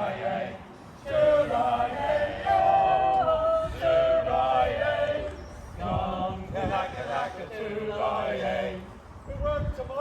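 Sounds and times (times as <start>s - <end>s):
group singing a sea shanty: 0.0s - 9.1s.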